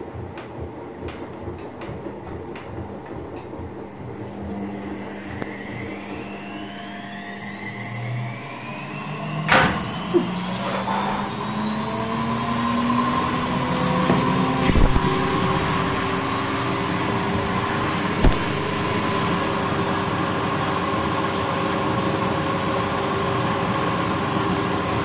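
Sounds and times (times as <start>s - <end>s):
washing machine motor whine: 0.0s - 25.0s.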